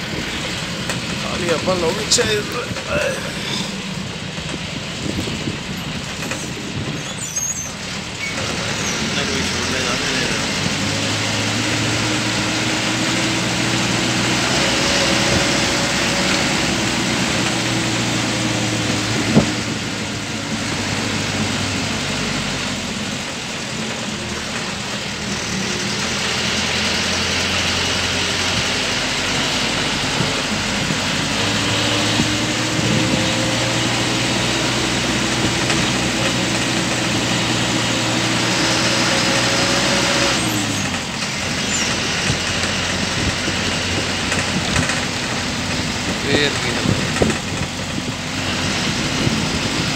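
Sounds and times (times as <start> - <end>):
vehicle engine running: 0.0 - 49.9.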